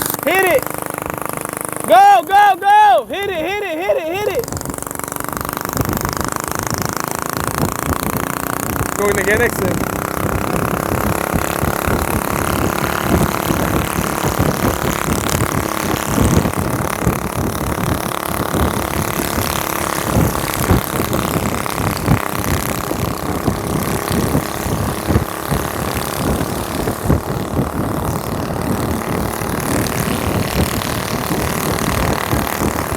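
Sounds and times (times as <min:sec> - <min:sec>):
loud rapid exhaust pulse: 0:00.0 - 0:32.9
mini bike engine running: 0:00.0 - 0:32.9.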